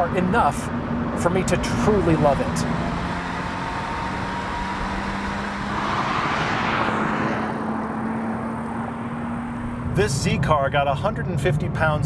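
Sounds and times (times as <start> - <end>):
sports car engine: 0.0 - 12.0.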